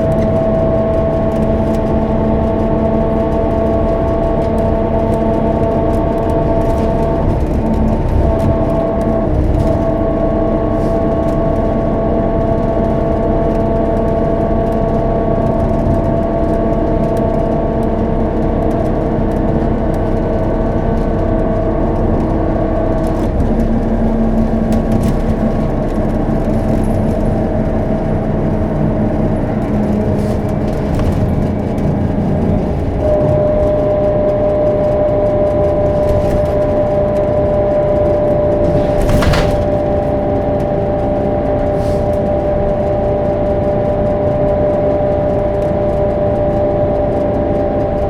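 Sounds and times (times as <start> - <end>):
bus engine drone: 0.0 - 48.0
gearbox whine: 0.0 - 48.0.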